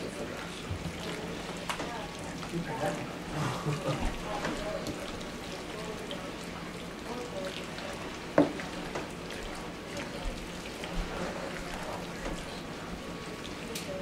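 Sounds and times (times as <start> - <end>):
soft wet stirring: 0.0 - 14.0.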